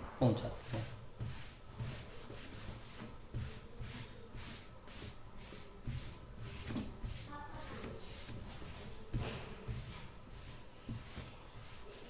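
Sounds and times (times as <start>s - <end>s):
writing strokes on a board: 0.5s - 12.0s.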